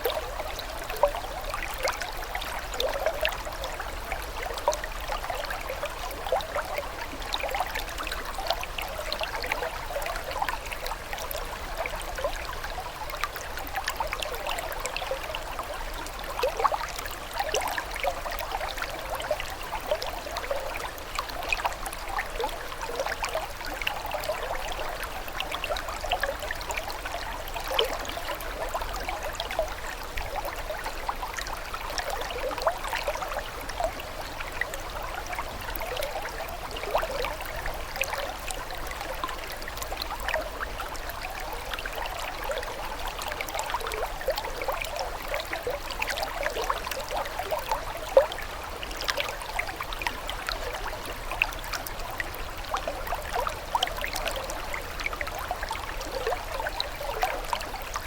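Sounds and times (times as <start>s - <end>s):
water trickling and gurgling: 0.0s - 58.0s.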